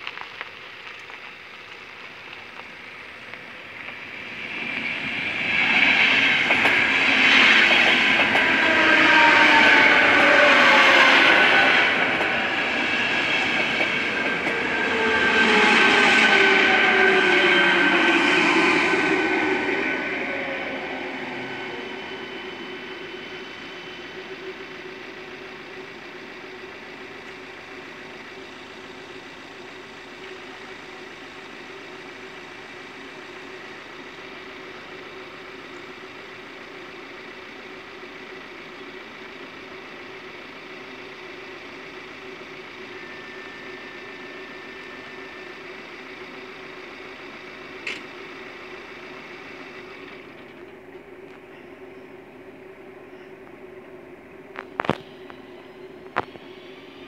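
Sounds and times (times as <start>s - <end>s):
train passing: 0.0s - 57.0s
steady engine hum: 0.1s - 57.0s.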